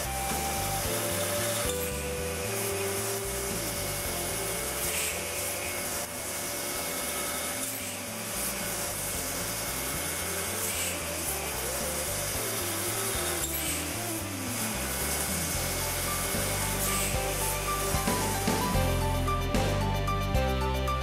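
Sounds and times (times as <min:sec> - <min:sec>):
drill cutting metal: 0:00.0 - 0:19.3.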